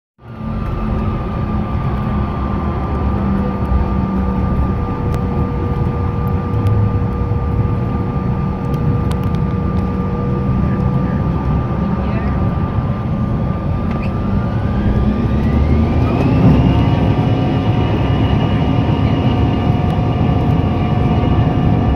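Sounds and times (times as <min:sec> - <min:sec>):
jet engines whining: 0:00.2 - 0:21.9.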